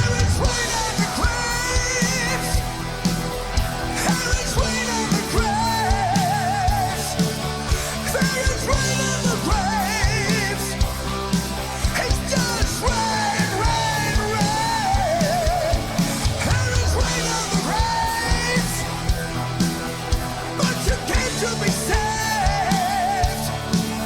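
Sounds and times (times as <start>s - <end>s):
heavy rock song with male singer: 0.0s - 24.0s.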